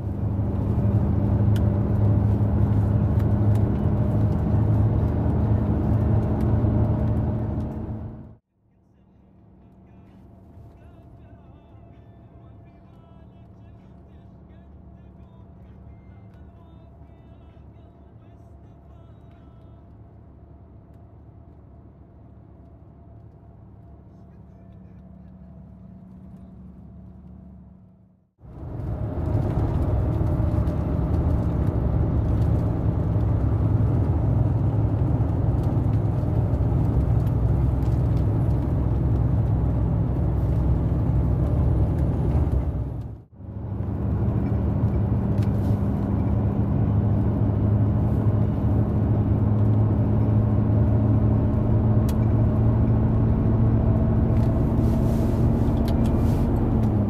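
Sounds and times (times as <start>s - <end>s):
road noise: 0.0s - 57.0s
truck diesel engine drone: 0.0s - 57.0s.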